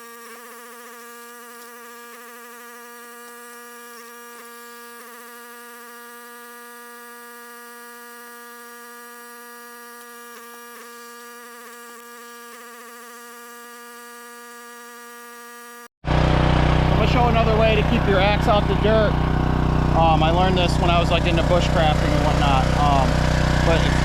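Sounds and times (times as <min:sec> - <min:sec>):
steady buzzing hum: 0:00.0 - 0:24.0.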